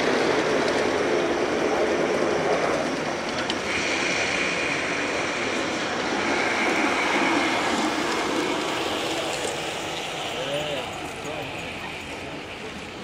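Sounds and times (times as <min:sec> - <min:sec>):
model train wheels and motors rumbling: 0:00.0 - 0:13.0
high steady whine: 0:01.2 - 0:13.0.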